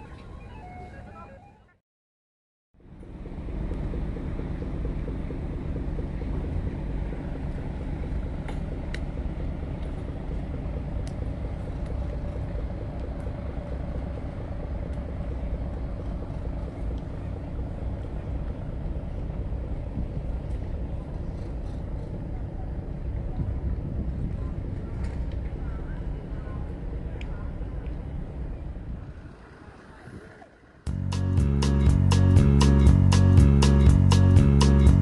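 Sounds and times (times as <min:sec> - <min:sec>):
boat engine rumbling: 0:02.8 - 0:35.0.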